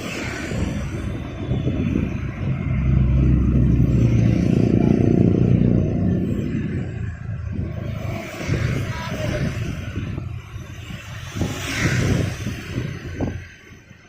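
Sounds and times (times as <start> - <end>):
vehicle passing close: 0.0 - 13.5
street traffic engines running: 0.0 - 14.0.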